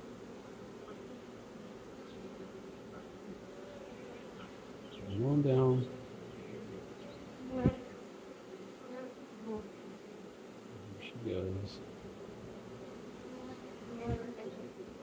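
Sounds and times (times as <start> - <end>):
honeybees humming: 0.0 - 15.0.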